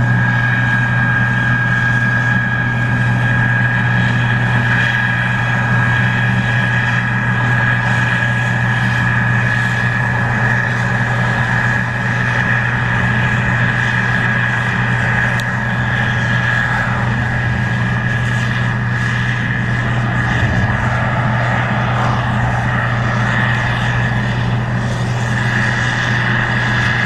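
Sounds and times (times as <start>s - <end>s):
combine engine hum: 0.0s - 27.0s
steady high whine: 0.0s - 27.0s.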